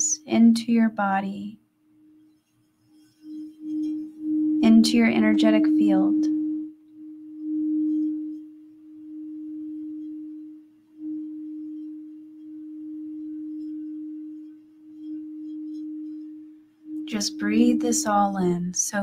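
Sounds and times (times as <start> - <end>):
singing bowl sustained tone: 1.8 - 19.0.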